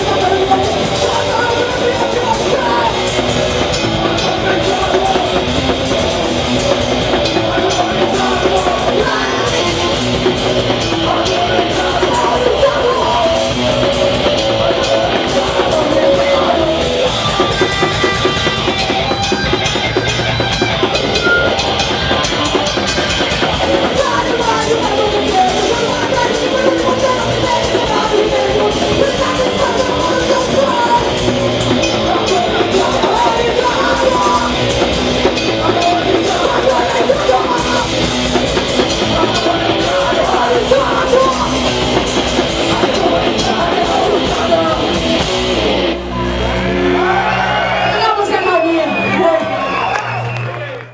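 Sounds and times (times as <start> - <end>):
shouted vocals: 0.0 - 18.9, 23.4 - 50.9
pounding drum kit: 0.0 - 50.3
bass guitar: 0.0 - 50.9
distorted electric guitars: 0.0 - 50.9.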